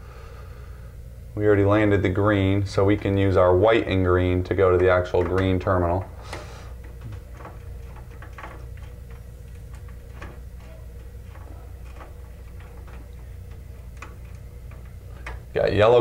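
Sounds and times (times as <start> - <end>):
steady low hum: 0.0 - 16.0
wire twisting ticks and clicks: 2.7 - 16.0.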